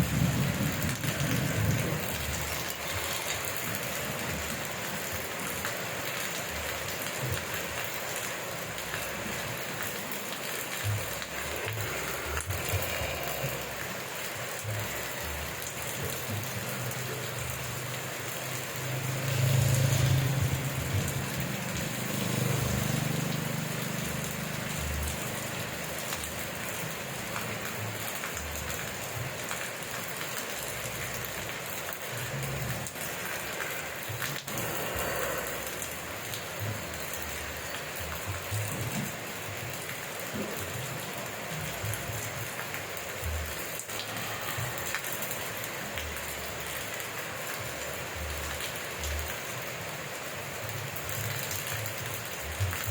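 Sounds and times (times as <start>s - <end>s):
rain falling on surfaces: 0.0s - 52.9s.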